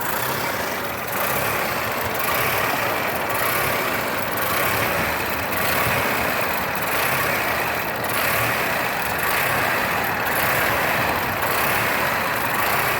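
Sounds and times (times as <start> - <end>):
engine idling roughly: 0.0 - 12.9.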